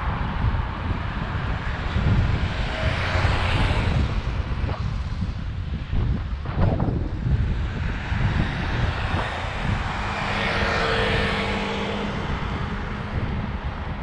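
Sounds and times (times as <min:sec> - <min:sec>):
vehicle engine hum and tyre hiss: 0:00.0 - 0:14.0
wind rumbling on microphone: 0:00.0 - 0:14.0.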